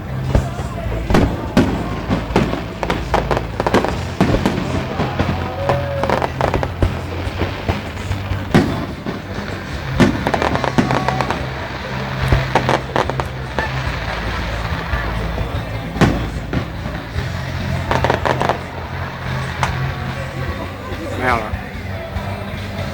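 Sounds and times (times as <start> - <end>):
fireworks bursting bangs: 0.0 - 22.9
music playing: 0.0 - 22.9.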